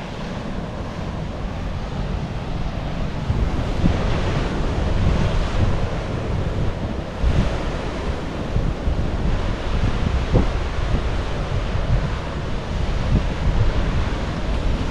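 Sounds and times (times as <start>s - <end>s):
sea surf washing in: 0.0s - 14.9s
wind buffeting microphone: 0.0s - 14.9s.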